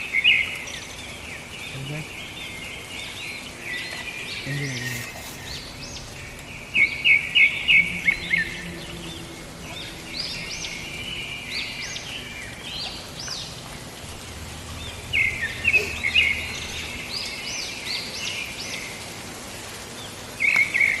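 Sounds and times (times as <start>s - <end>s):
background hiss: 0.0s - 21.0s
birds chirping: 0.0s - 21.0s.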